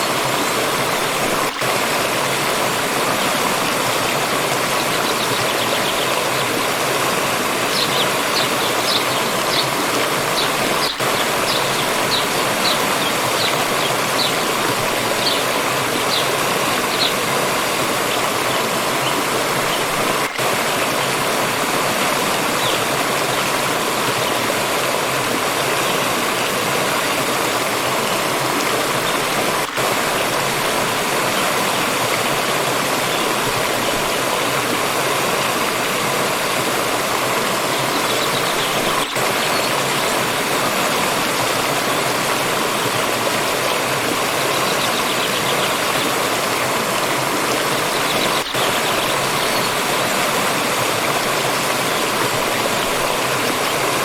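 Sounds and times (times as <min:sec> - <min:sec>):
forest stream flowing: 0:00.0 - 0:54.0.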